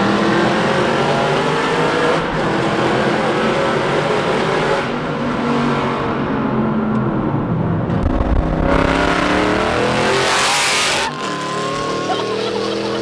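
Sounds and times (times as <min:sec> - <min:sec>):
car accelerating with loud exhaust: 0:00.0 - 0:13.0.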